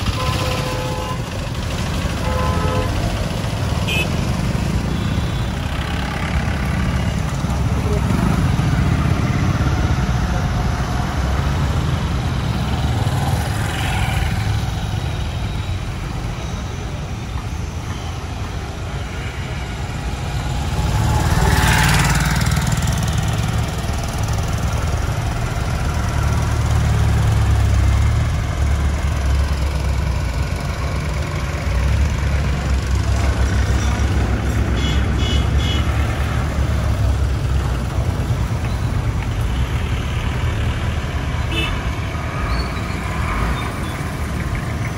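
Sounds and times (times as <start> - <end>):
trucks and cars passing: 0.0 - 44.9.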